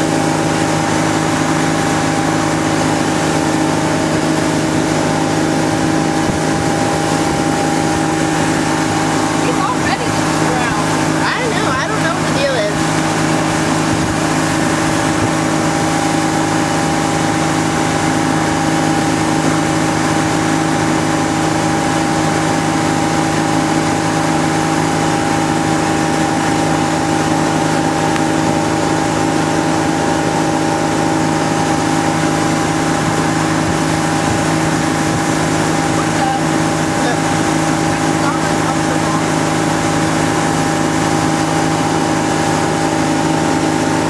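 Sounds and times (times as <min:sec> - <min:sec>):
boat engine droning: 0:00.0 - 0:44.0
rush of wake water: 0:00.0 - 0:44.0
wind: 0:00.0 - 0:44.0.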